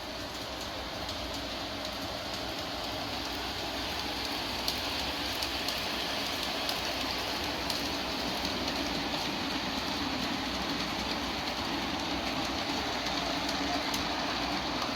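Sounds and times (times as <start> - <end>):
model train wheels rolling on rails: 0.0 - 14.9.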